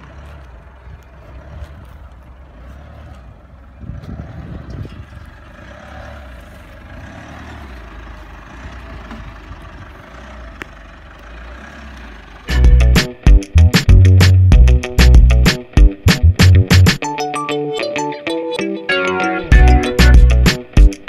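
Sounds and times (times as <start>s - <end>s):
suv engine rumbling at low revs: 0.0s - 16.9s.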